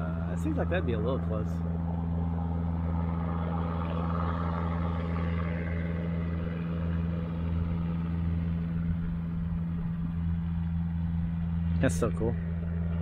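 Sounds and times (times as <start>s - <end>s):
helicopter droning in distance: 0.0s - 13.0s.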